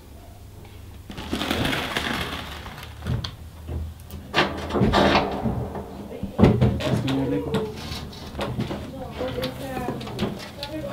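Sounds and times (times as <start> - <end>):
knocks and scraping on metal floor: 1.3 - 10.6.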